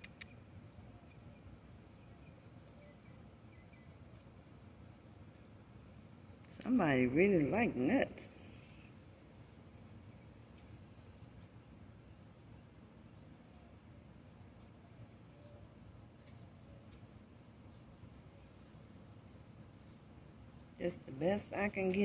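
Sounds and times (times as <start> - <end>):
small bird chirping: 0.0 - 6.7, 8.0 - 20.3.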